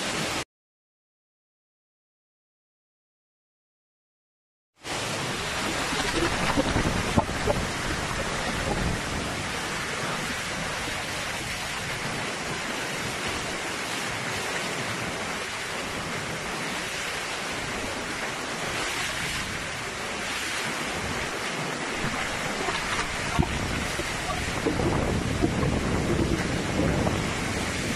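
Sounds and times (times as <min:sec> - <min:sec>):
heavy rain: 0:04.9 - 0:27.9
strong wind: 0:04.9 - 0:27.9.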